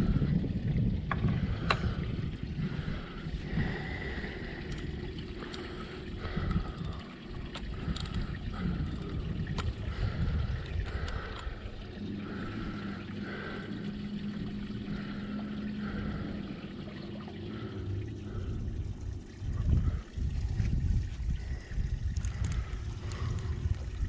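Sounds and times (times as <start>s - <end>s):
steady low hum: 0.0s - 24.0s
water lapping around boat: 0.0s - 24.0s
wind rumble on microphone: 0.0s - 24.0s.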